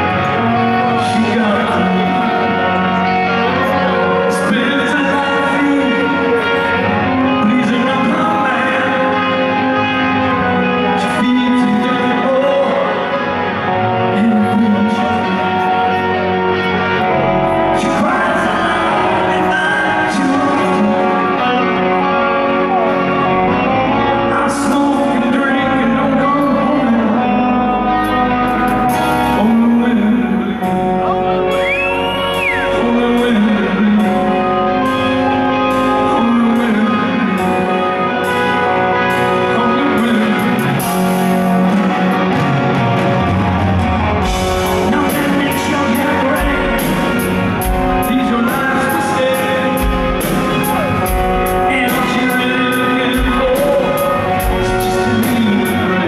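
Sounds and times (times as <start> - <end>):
bass guitar: 0.0 - 56.0
electric guitars: 0.0 - 56.0
male lead singer: 0.0 - 56.0.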